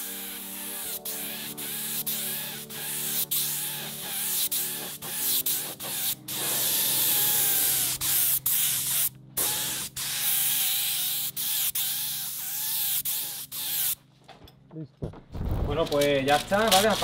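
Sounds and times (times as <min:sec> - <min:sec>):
spray gun hissing: 0:00.0 - 0:14.0.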